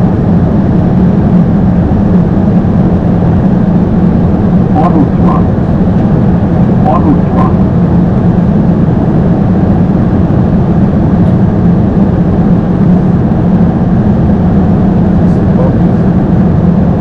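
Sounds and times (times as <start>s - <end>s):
airliner engine and airflow rumble: 0.0s - 17.0s.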